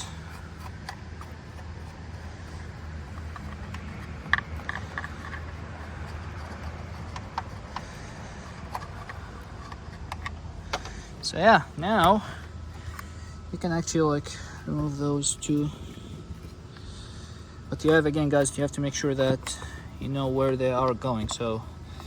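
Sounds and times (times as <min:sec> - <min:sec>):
hand tools clicking and knocking: 0:00.0 - 0:16.0, 0:17.7 - 0:22.0
steady low hum: 0:00.0 - 0:22.0.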